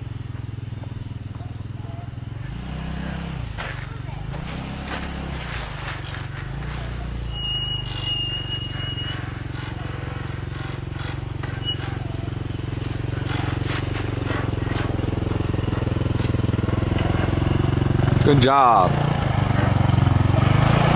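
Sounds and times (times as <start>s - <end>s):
go-kart engine running: 0.0s - 20.9s.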